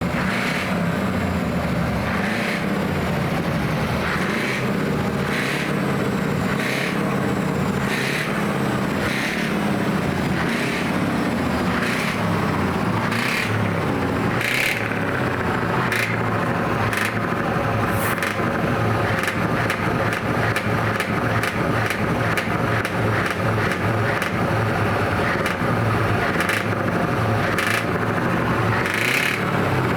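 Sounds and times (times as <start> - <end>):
truck engines rumbling: 0.0 - 29.9.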